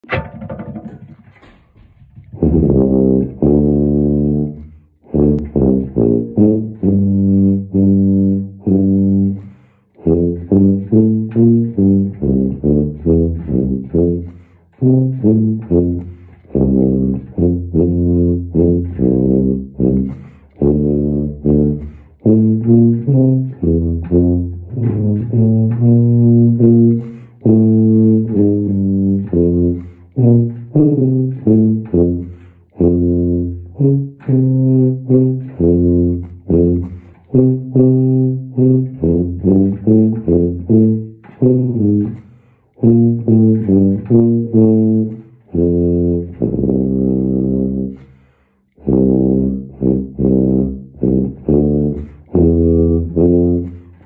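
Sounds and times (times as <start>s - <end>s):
tuba playing slow melody: 2.2s - 54.0s.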